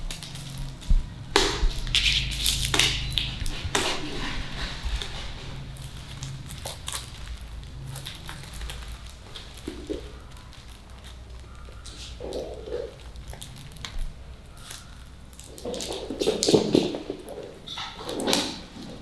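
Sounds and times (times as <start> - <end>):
sticker sheet crinkling: 0.0 - 19.0.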